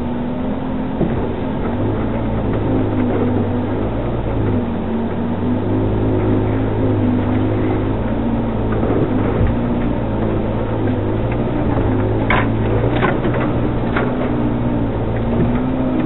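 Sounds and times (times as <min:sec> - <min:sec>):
off-road vehicle engine running: 0:00.0 - 0:16.0
vehicle knocks and rattles: 0:00.0 - 0:16.0.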